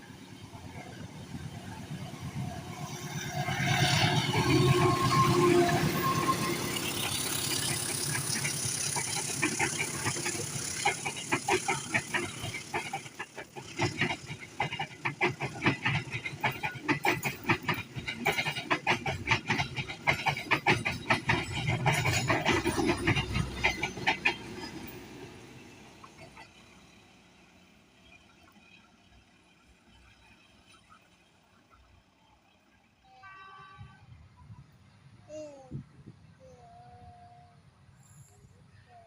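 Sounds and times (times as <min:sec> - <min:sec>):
train wheels clicking over rail joints: 0:00.0 - 0:32.0.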